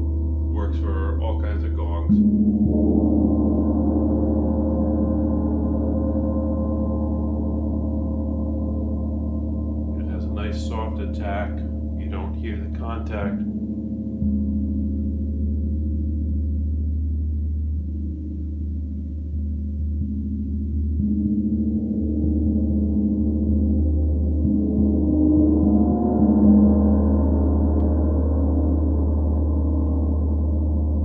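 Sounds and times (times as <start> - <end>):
gong drone with ringing overtones: 2.1 - 10.0, 13.3 - 31.0.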